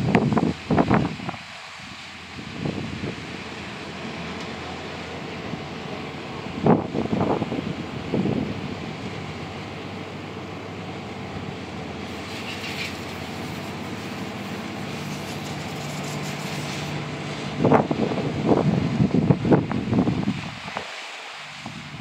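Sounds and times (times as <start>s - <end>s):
wind buffeting microphone: 0.0s - 10.4s, 11.0s - 22.0s
boat engine passing: 0.0s - 22.0s.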